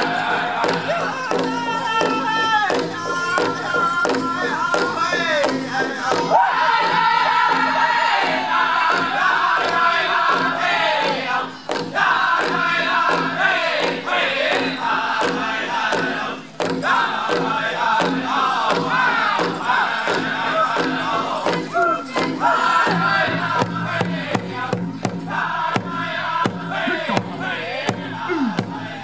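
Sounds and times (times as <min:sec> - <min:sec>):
group singing chant: 0:00.0 - 0:29.0
large drum beat: 0:00.0 - 0:29.0.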